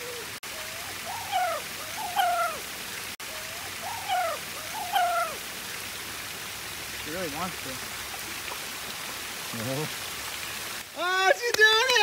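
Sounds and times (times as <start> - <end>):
creek running water: 0.0 - 12.0.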